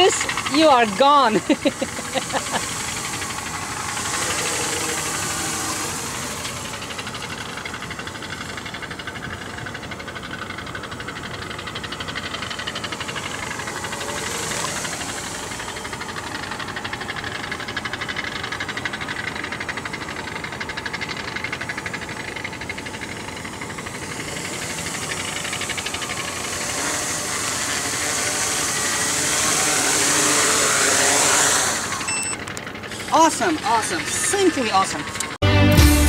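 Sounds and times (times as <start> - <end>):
quadcopter propellers buzzing: 0.0 - 35.4.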